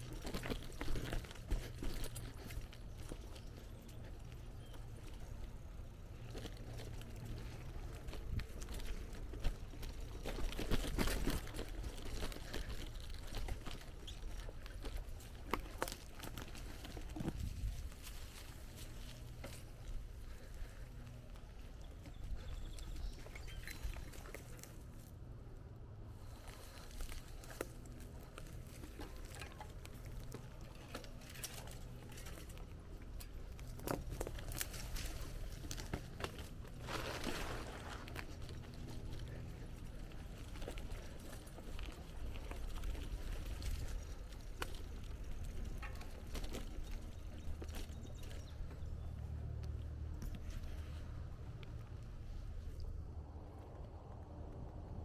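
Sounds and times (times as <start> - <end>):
irregular clicks and crackles: 0.0 - 25.2, 26.2 - 52.9
bicycle rolling over rough path: 0.0 - 55.0.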